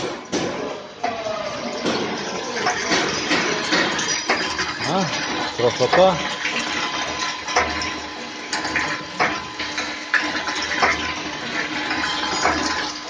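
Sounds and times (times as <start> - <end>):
water churning and splashing: 1.2 - 13.0.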